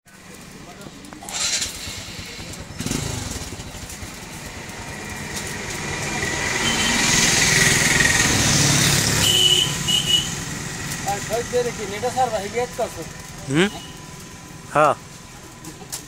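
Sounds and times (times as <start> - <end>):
motorcycle passing by: 0.7 - 15.9.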